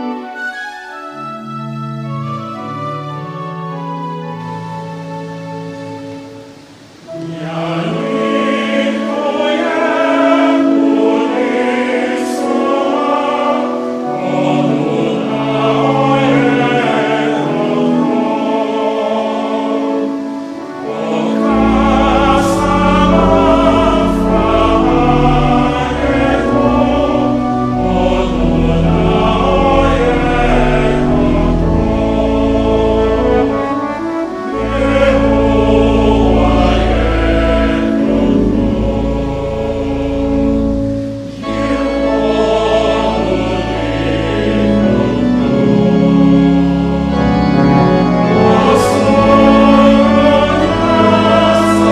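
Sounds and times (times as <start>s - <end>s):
background music: 0.0s - 51.9s
choir singing: 0.0s - 51.9s.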